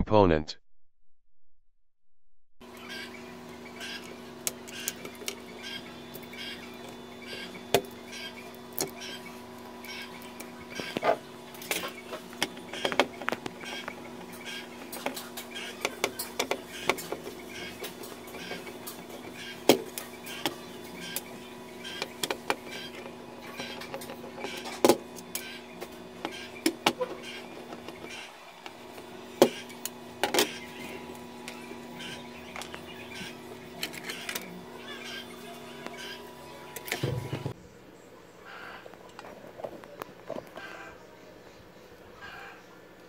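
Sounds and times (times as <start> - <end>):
steady electrical hum: 2.6 - 43.0.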